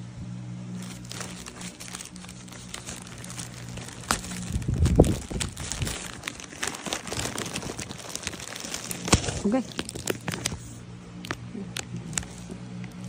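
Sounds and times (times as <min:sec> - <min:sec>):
low handling rumble: 0:00.0 - 0:13.0
plastic wrapping crinkling: 0:00.7 - 0:13.0.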